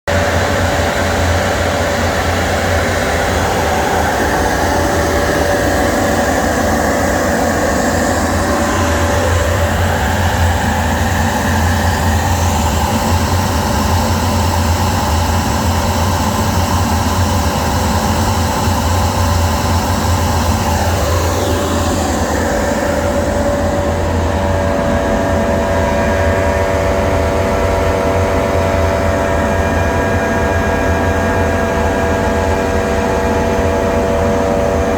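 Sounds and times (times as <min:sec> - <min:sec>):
dust collector motor hum: 0:00.1 - 0:34.9
fan and air rushing: 0:00.1 - 0:34.9.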